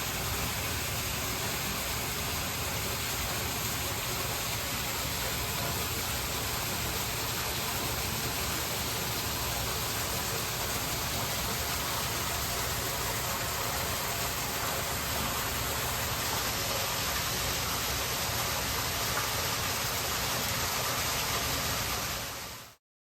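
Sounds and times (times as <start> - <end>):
rush of falling water: 0.0 - 22.8.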